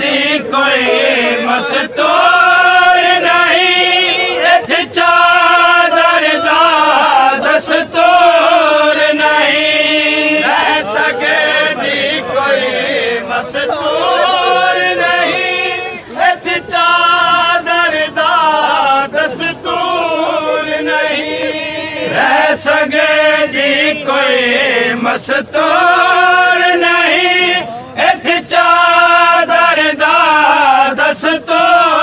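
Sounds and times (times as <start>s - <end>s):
men chanting a lament: 0.0s - 32.0s.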